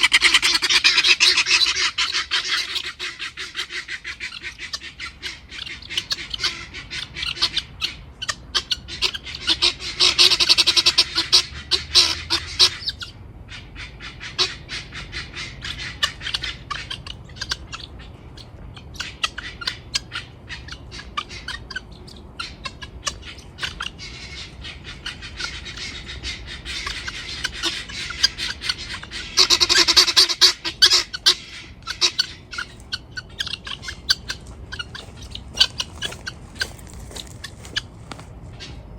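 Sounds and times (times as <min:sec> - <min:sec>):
guinea fowl clicking calls: 0:00.0 - 0:38.9.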